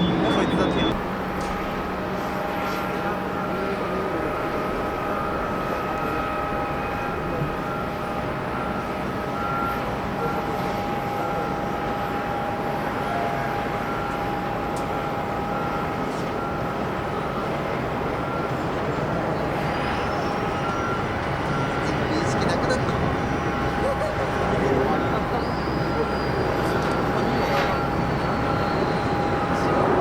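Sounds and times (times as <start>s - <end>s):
jet airliner engines whining: 0.0s - 30.0s.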